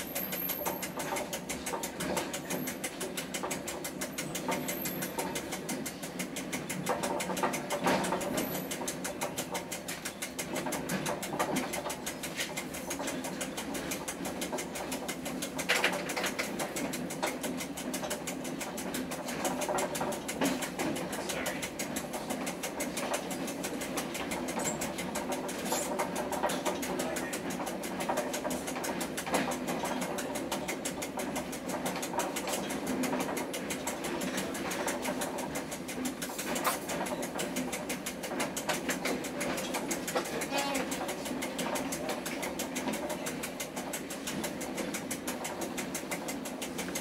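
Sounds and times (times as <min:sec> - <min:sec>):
fast even rattle: 0:00.0 - 0:47.0
train running on track: 0:00.0 - 0:47.0.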